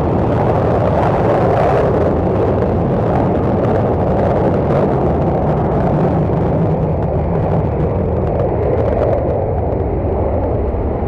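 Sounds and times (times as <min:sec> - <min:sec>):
deep jet engine roar: 0:00.0 - 0:11.0
wind buffeting microphone: 0:00.0 - 0:11.0.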